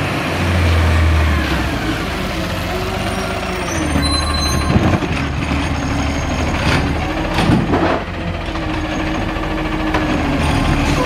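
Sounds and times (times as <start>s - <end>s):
garbage truck engine running: 0.0s - 11.0s.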